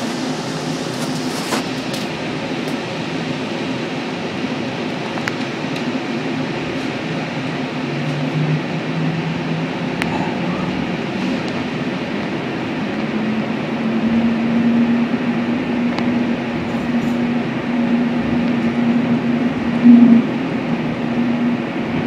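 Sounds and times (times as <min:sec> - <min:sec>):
cable car rumble: 0:00.0 - 0:22.0
steady hum: 0:00.0 - 0:22.0.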